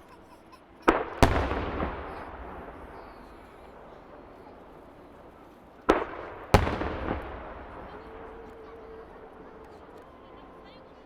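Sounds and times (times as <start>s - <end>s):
firework bang with rumbling echo: 0.8s - 10.0s.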